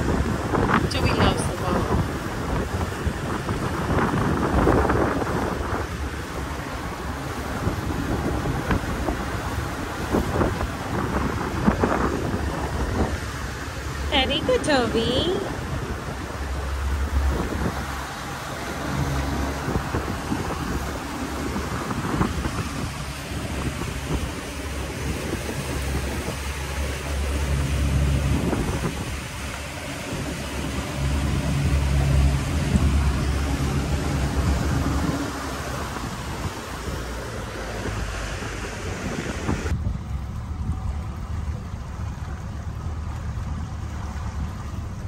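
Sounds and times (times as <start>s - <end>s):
boat motor humming: 0.0s - 45.0s
water rushing past hull: 0.0s - 45.0s
wind on microphone: 0.0s - 45.0s.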